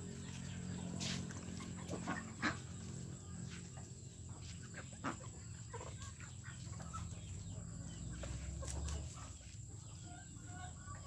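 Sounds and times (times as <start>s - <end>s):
birds pecking at ground: 0.0s - 11.0s
chickens clucking: 0.0s - 11.0s.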